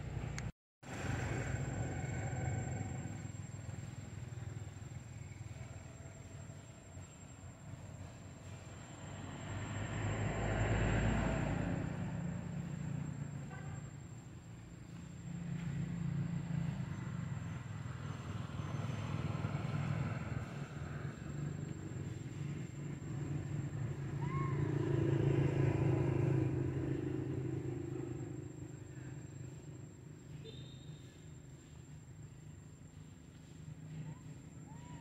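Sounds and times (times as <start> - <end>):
vehicle engines passing: 0.0 - 35.0.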